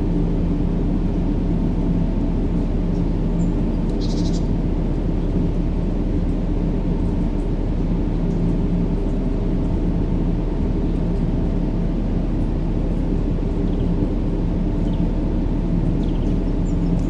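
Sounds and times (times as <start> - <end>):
low rumbling white noise: 0.0 - 17.0.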